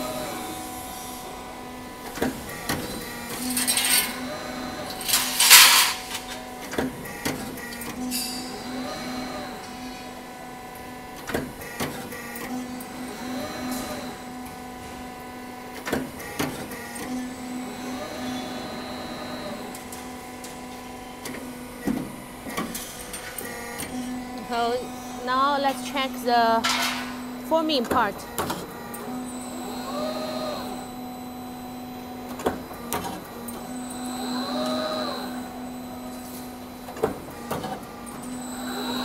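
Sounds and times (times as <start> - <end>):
machine hum: 0.0 - 39.0
machine whine: 0.0 - 39.0.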